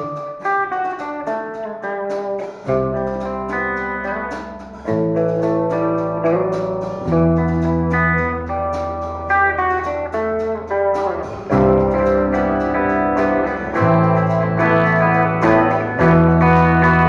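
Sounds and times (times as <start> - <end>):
electric guitar melody: 0.0 - 17.0
deep held bass notes: 2.7 - 17.0.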